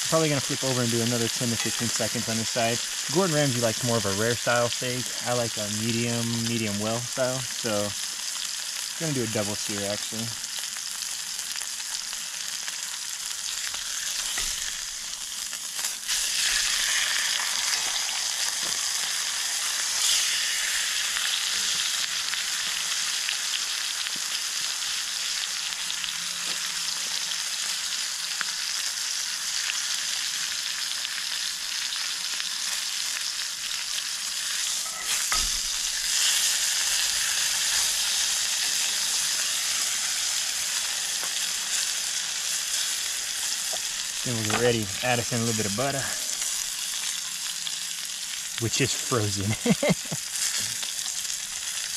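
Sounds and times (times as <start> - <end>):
steak sizzling in skillet: 0.0 - 51.9.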